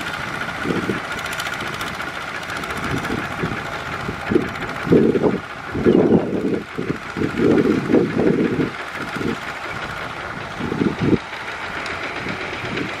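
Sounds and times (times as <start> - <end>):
diesel tractor engine running: 0.0 - 13.0
heavy low rumbling bursts: 0.0 - 13.0.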